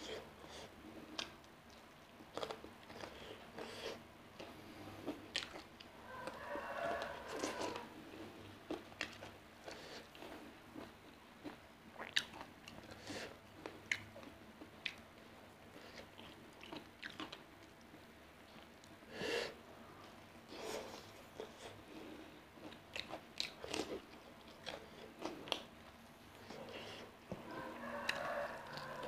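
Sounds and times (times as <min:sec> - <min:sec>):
crunchy chewing: 0:00.0 - 0:15.0, 0:15.7 - 0:17.8, 0:20.5 - 0:29.0.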